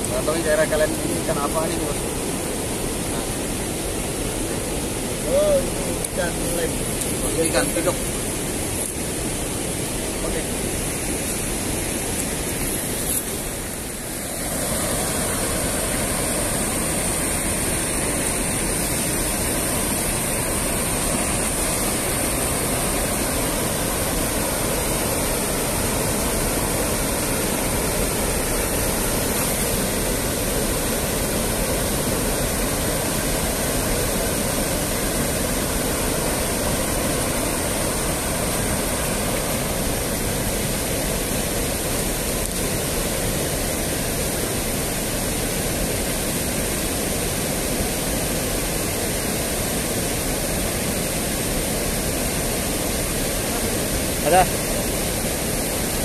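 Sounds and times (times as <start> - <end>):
water rushing over weir: 0.0 - 56.0.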